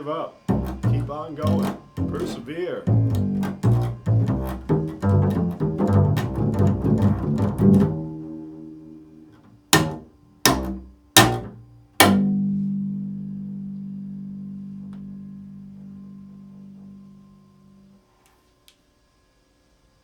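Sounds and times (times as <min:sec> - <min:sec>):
low string instrument notes: 0:00.0 - 0:18.0.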